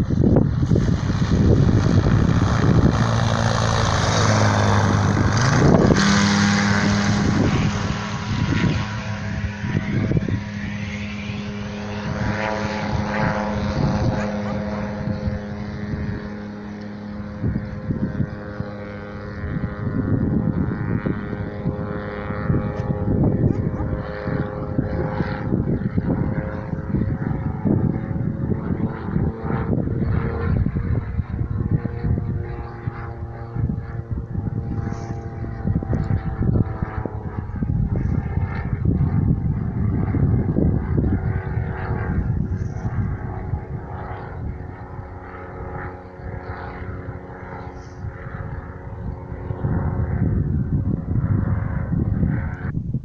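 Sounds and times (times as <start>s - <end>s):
propeller aircraft engine: 0.0s - 53.0s.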